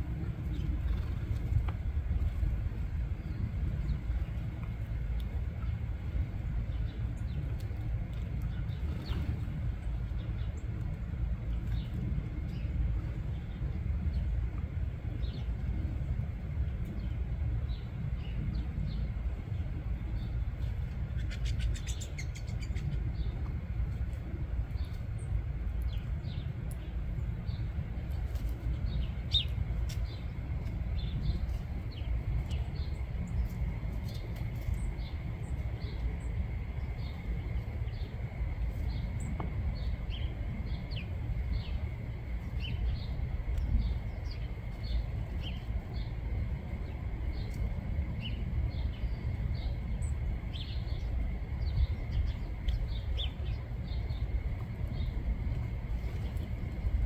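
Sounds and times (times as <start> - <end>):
steady low rumble: 0.0 - 57.0
small birds chirping: 0.4 - 14.3, 16.8 - 57.0.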